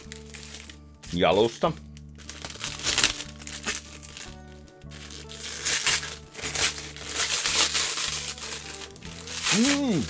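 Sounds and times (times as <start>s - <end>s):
faint background music: 0.0s - 10.0s
packaging crinkling: 0.0s - 10.0s.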